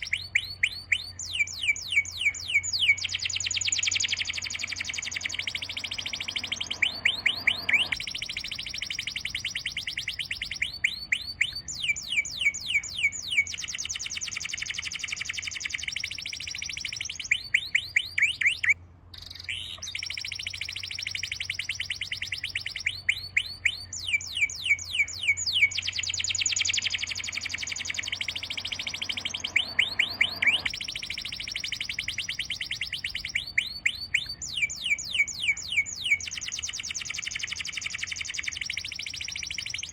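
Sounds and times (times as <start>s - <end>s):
sharp sweeping bird chirps: 0.0s - 39.9s
songbirds trilling: 0.0s - 39.9s.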